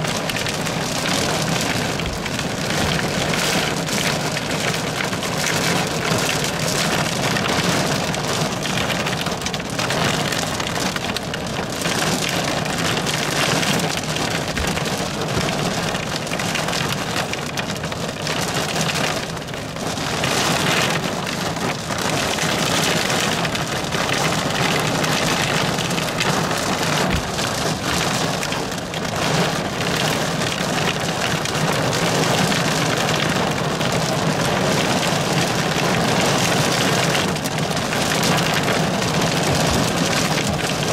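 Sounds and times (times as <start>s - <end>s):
rain drumming on car roof: 0.0s - 40.9s.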